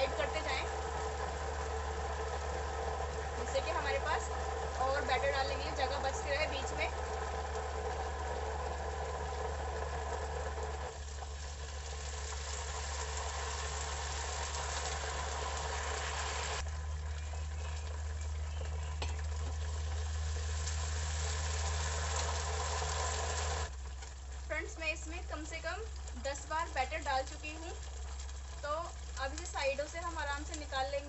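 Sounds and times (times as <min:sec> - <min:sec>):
batter sizzling in hot oil: 0:00.0 - 0:31.0
low hum: 0:00.0 - 0:31.0.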